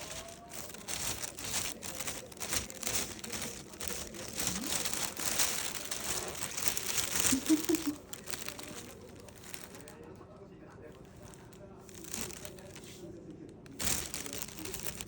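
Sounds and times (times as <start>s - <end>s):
plastic bag crinkling: 0.0s - 10.3s, 10.9s - 15.0s.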